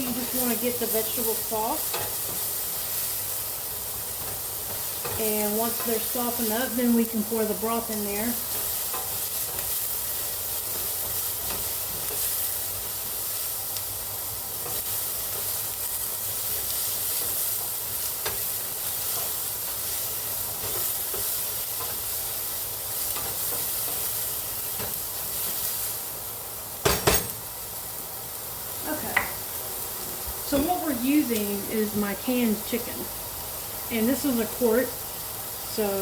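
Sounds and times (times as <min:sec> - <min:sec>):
vegetables sizzling in a pot: 0:00.0 - 0:36.0.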